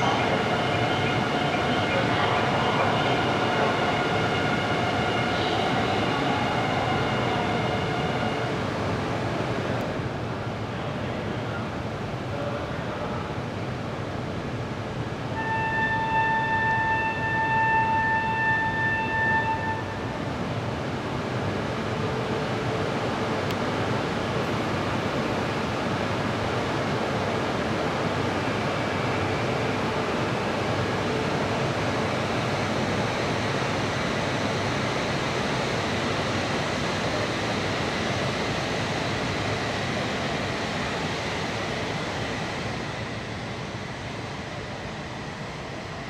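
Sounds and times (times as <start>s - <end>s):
train passing with rushing noise: 0.0s - 46.0s.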